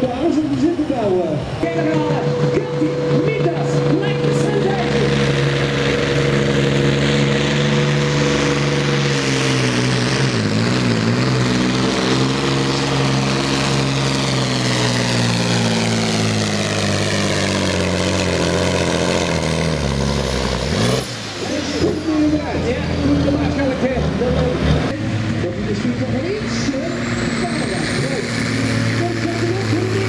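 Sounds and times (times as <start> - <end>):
truck diesel engine at full throttle: 0.0 - 30.0.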